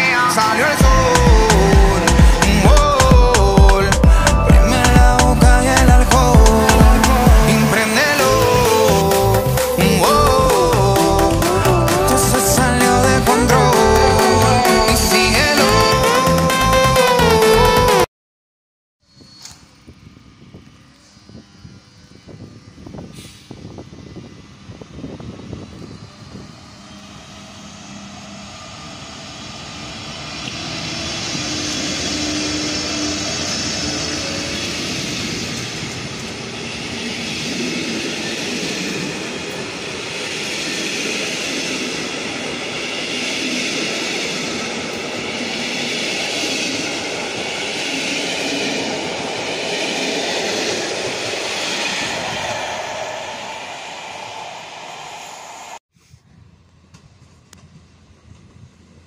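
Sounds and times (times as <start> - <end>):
train wheels rushing on rails: 0.0 - 17.3, 21.6 - 55.8.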